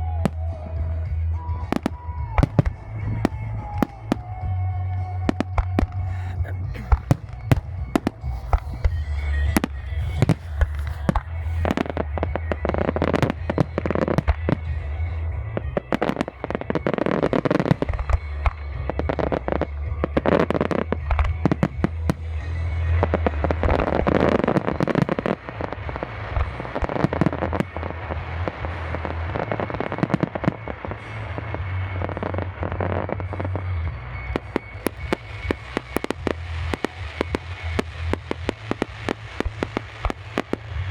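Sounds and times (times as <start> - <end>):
fireworks bangs: 0.0 - 40.9
music: 0.0 - 40.9.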